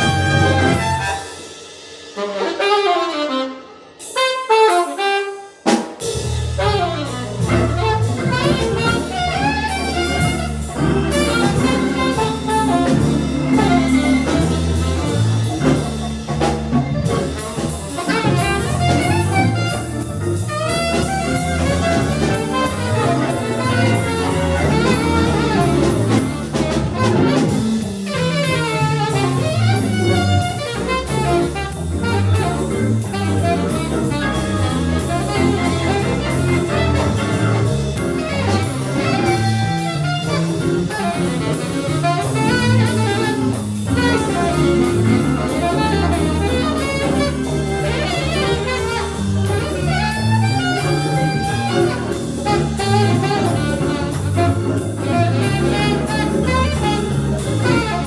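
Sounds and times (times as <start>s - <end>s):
bass: 0.0s - 58.0s
drums: 0.0s - 58.0s
horn melody: 0.0s - 58.0s.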